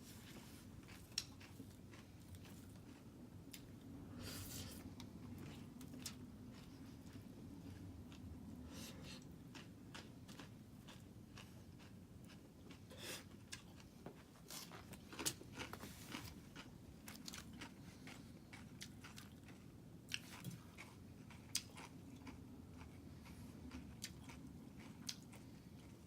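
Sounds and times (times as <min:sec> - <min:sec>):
soft chewing: 0:00.0 - 0:26.0.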